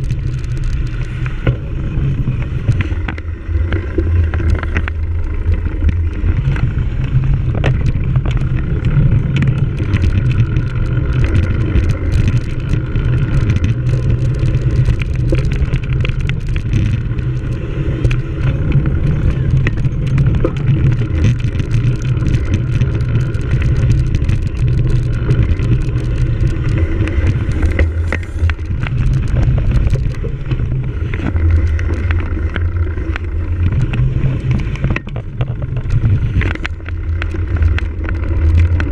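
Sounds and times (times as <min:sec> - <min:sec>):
bicycle frame rattling and clicking: 0:00.0 - 0:38.9
wind buffeting microphone: 0:00.0 - 0:38.9.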